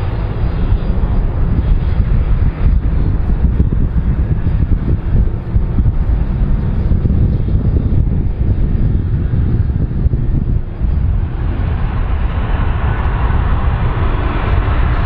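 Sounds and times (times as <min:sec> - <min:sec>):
aircraft engines rumbling: 0:00.0 - 0:15.0
wind buffeting microphone: 0:00.0 - 0:15.0.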